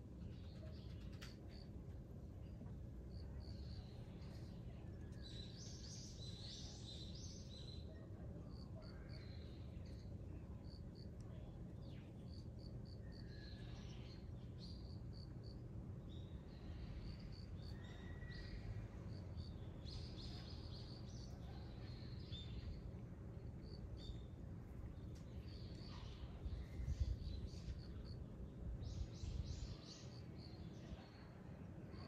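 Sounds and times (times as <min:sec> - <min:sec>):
low background hum: 0:00.0 - 0:32.0.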